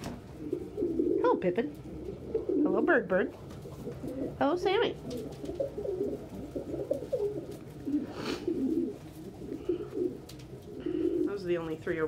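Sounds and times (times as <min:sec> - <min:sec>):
pigeons cooing: 0:00.2 - 0:12.0.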